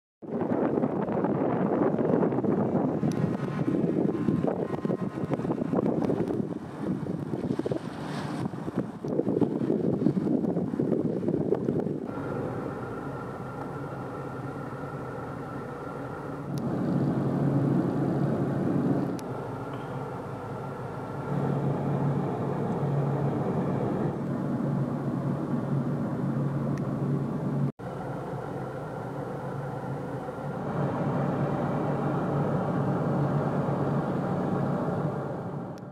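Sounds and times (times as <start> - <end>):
engine drone: 0.2 - 35.9.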